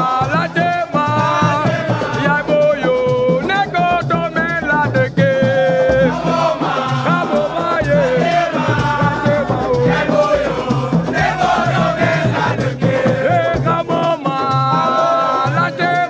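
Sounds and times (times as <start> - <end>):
person singing: 0.0 - 16.0
repeating bass beat: 0.0 - 16.0.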